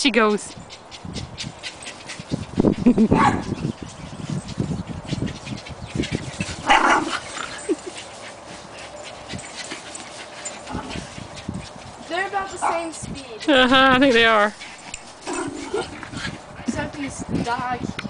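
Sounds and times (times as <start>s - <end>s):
dogs playing on grass: 0.0s - 18.0s.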